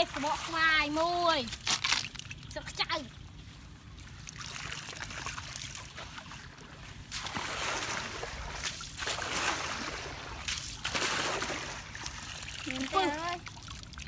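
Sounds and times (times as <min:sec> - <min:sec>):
muddy water sloshing and splashing: 0:00.0 - 0:14.0.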